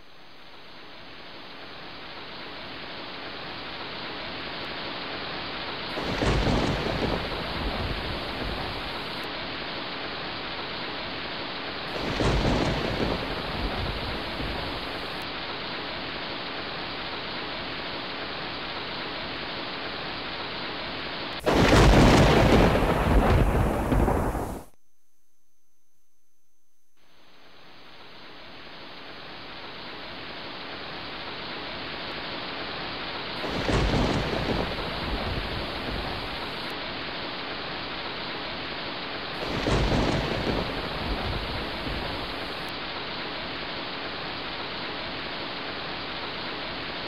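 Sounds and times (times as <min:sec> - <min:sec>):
waves washing on beach: 0:02.5 - 0:24.7, 0:28.8 - 0:47.0.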